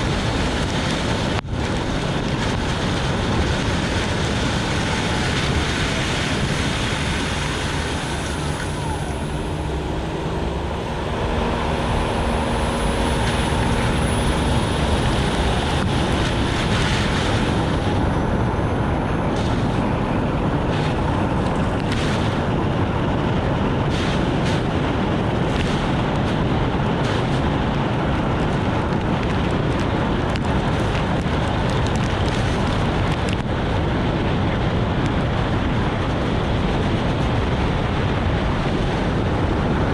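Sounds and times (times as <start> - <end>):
tyres hissing on wet road: 0.0 - 18.1, 19.2 - 39.9
rain and wind noise: 0.0 - 39.9.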